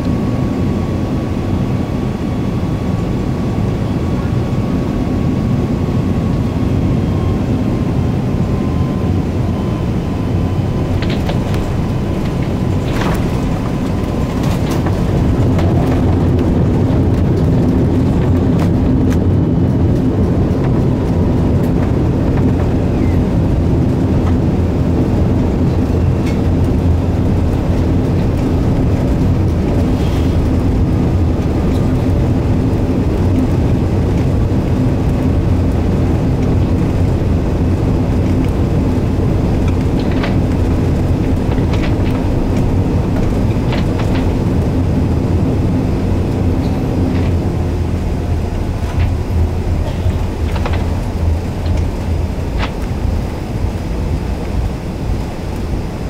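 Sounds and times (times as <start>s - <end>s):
aircraft cabin rumble: 0.0s - 56.0s
steady hum: 2.5s - 56.0s.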